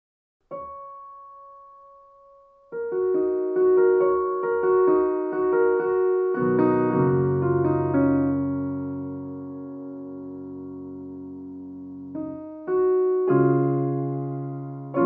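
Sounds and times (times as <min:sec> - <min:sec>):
solo piano playing: 0:00.4 - 0:15.0.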